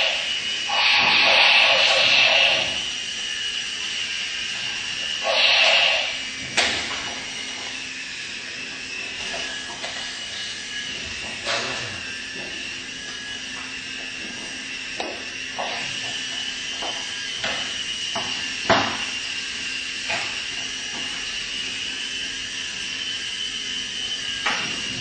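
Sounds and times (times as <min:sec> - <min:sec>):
small electric motors whining: 0:00.0 - 0:25.0.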